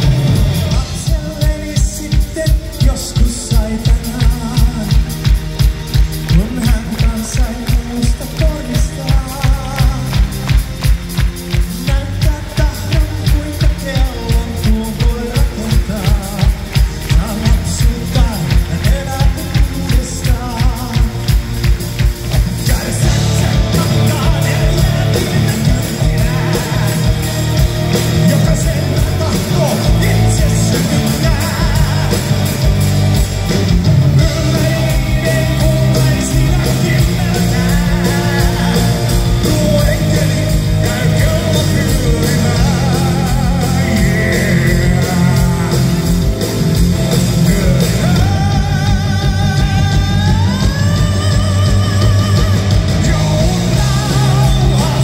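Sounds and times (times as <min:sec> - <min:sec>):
live heavy rock band: 0:00.0 - 0:55.0
person singing: 0:00.0 - 0:55.0.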